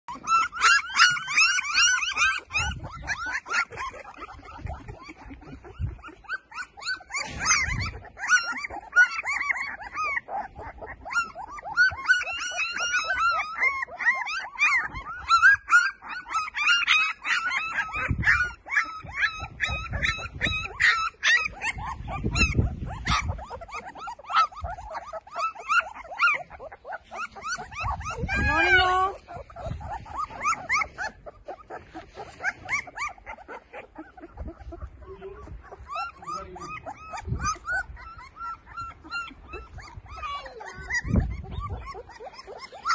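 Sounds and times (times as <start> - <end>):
puppies crying: 0.0 - 42.9.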